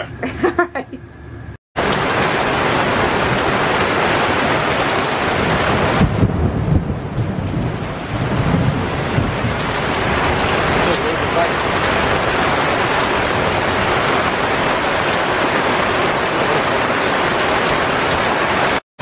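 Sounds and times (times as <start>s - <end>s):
heavy rain pouring: 1.8s - 18.8s.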